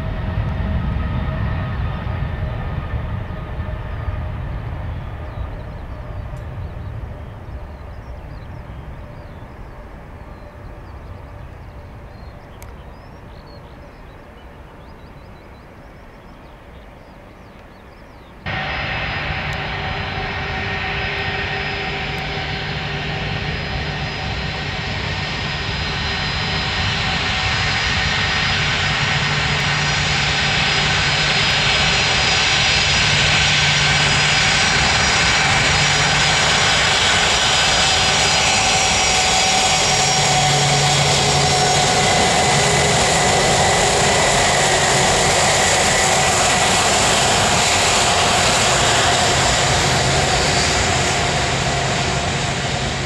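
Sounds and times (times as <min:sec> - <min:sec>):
aircraft engines whining: 0:00.0 - 0:53.0.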